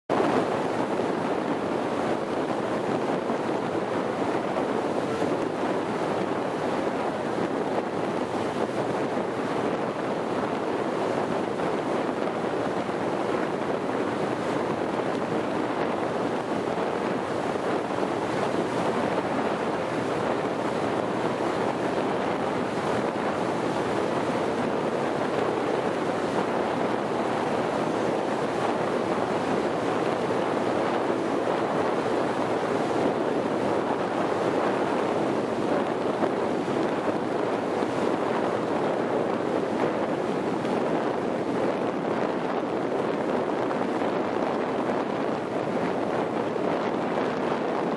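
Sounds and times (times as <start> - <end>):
waves: 0.1 - 47.9.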